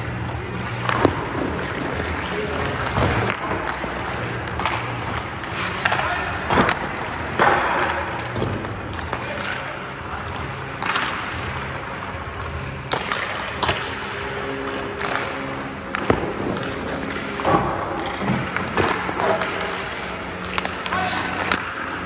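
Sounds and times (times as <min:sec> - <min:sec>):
skates scraping on ice: 0:00.0 - 0:22.0
hockey stick hitting puck: 0:00.5 - 0:22.0.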